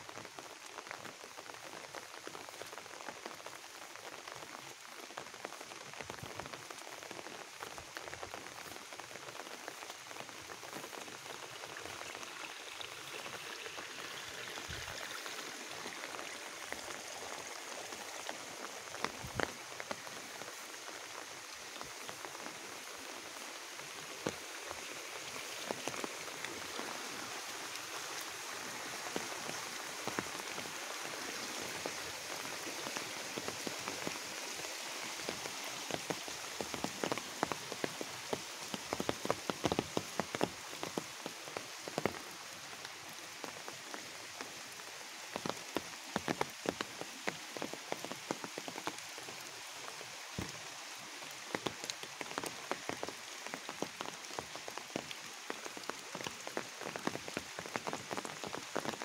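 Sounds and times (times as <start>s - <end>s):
steady rain: 0.0s - 59.0s
raindrops ticking: 0.1s - 59.0s.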